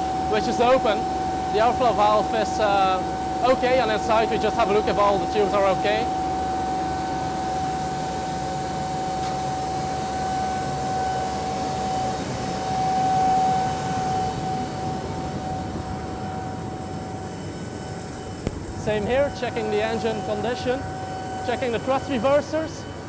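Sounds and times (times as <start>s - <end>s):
auxiliary power unit turbine whine: 0.0s - 23.0s.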